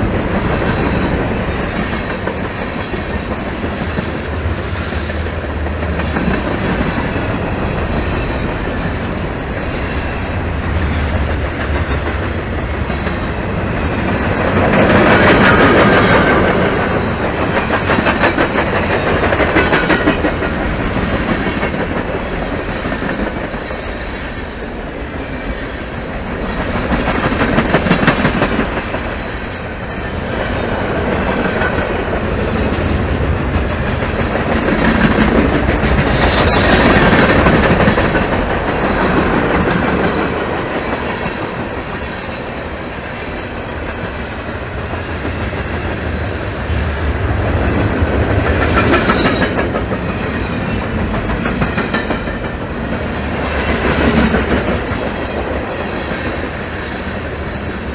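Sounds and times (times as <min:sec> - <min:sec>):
freight train wheels clacking: 0:00.0 - 0:57.9
train wheel squeals: 0:00.4 - 0:31.8, 0:32.6 - 0:57.9.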